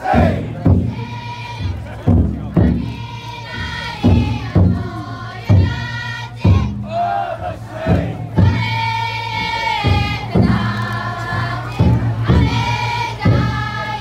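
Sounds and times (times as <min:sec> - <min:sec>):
group chanting in chorus: 0:00.0 - 0:14.0
large drum beating slowly: 0:00.0 - 0:14.0.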